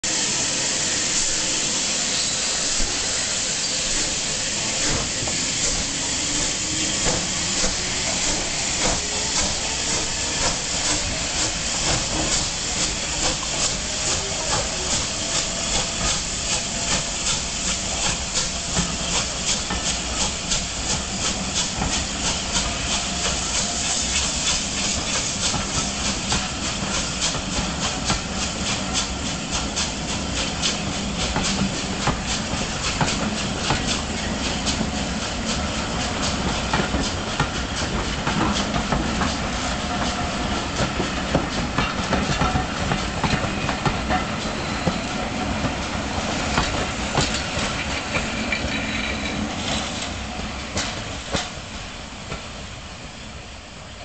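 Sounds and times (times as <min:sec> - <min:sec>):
steam hiss: 0:00.0 - 0:54.0
steam locomotive exhaust beats: 0:00.1 - 0:54.0.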